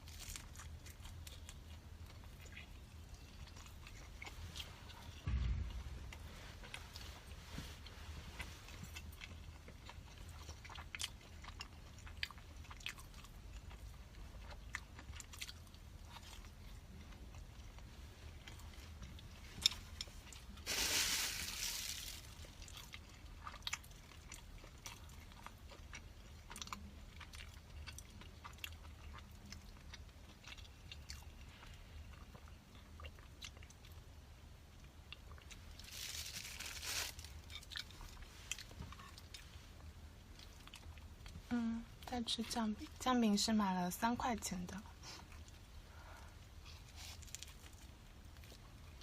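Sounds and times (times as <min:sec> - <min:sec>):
soft wet chewing: 0:00.0 - 0:49.0.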